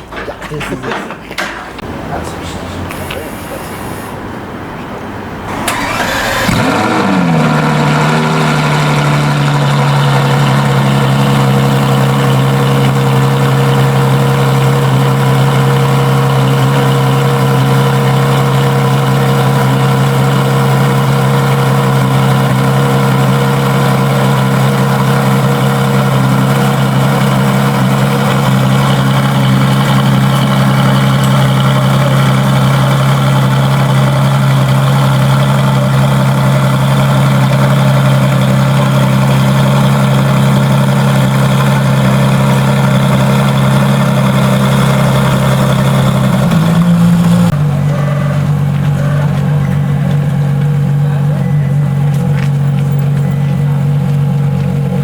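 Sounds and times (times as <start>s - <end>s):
car engine starting and idling: 1.4s - 55.0s.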